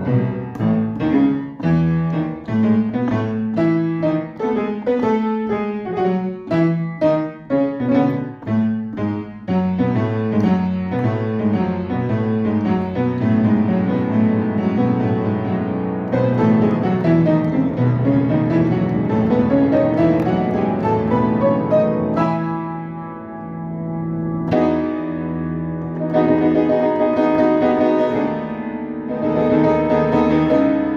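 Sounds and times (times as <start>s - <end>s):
piano music: 0.0s - 30.9s.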